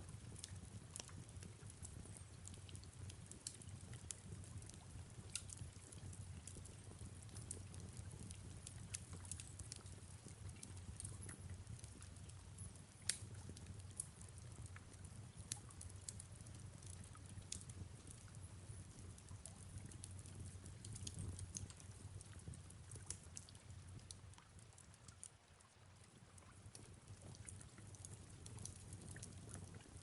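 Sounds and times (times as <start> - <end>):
faint wood fire crackling: 0.0 - 30.0
soft steady rain: 0.0 - 30.0.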